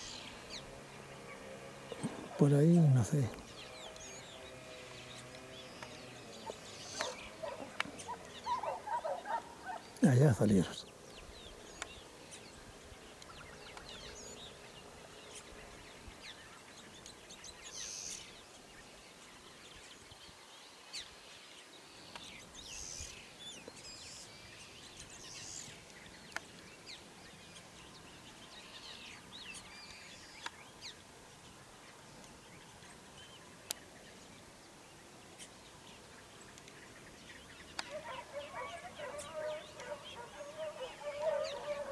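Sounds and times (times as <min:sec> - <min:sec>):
faint birds chirping: 0:00.0 - 0:41.9
steady open-air hiss: 0:00.0 - 0:41.9.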